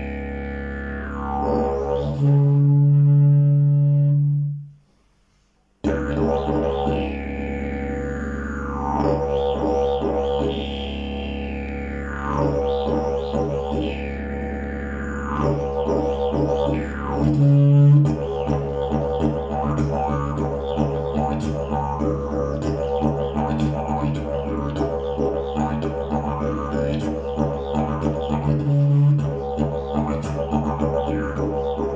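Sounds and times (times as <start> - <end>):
didgeridoo low drone: 0.0 - 4.6, 5.8 - 31.9.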